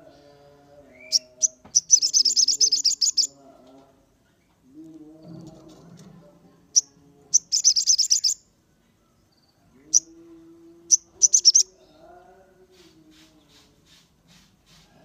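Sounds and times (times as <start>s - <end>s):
songbird chirps and trills: 0.0s - 14.0s.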